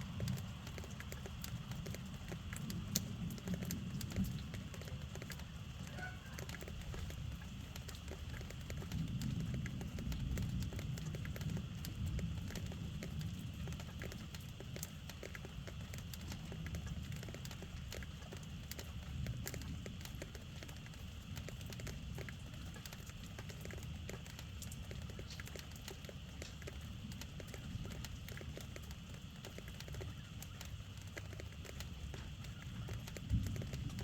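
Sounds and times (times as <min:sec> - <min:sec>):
raindrops tapping on surface: 0:00.0 - 0:34.0.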